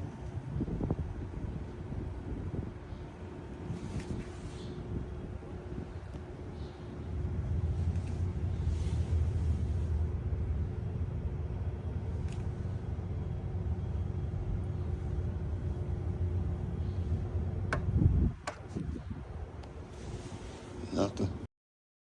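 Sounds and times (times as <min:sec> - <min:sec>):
faint hum: 0:00.0 - 0:21.5
low mechanical rumble: 0:00.0 - 0:21.5.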